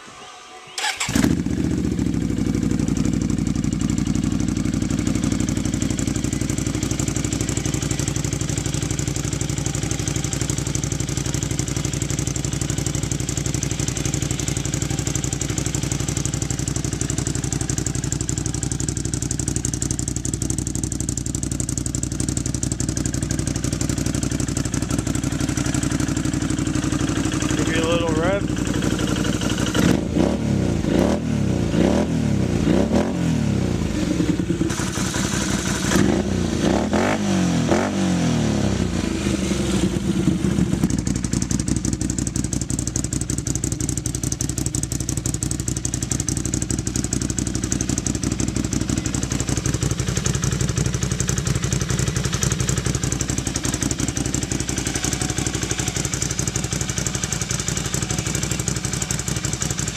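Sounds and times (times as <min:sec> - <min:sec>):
atv engine revving and idling: 0:00.8 - 0:59.9.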